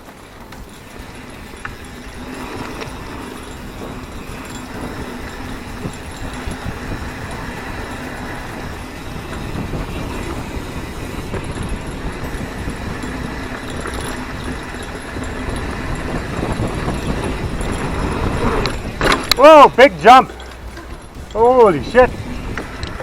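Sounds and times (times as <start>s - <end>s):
bike rattling: 0.0s - 23.0s
bike tyres rumbling on dirt: 0.0s - 23.0s.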